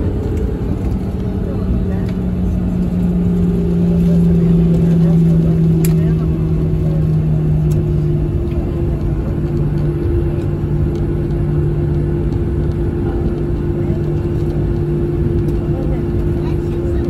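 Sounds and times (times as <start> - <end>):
aircraft cabin drone: 0.0 - 17.0.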